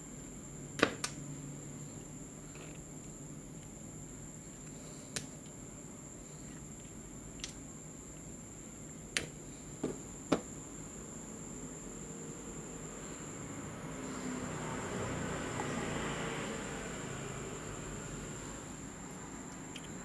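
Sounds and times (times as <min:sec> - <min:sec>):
faint high whine: 0:00.0 - 0:20.0
room hum: 0:00.0 - 0:20.0.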